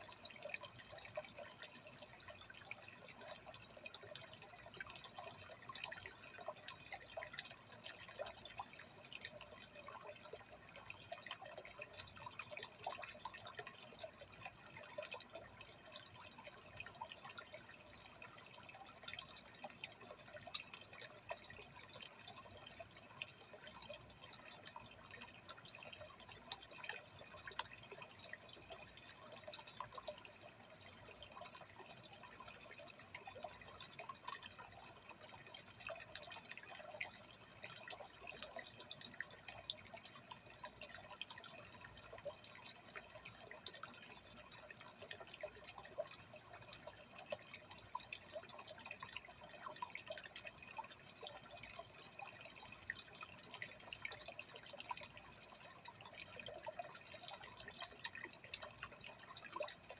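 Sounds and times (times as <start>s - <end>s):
aquarium water trickling: 0.0s - 59.9s.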